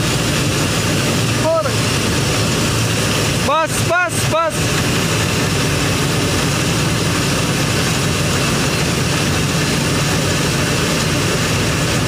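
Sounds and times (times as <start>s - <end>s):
combine harvester droning: 0.0s - 12.0s
grain pouring: 0.0s - 12.0s.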